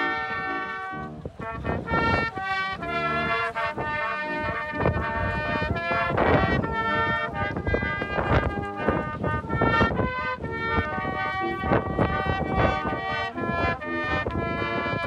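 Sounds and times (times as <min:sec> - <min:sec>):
brass band playing: 0:00.0 - 0:15.0
wind buffeting microphone: 0:00.0 - 0:15.0.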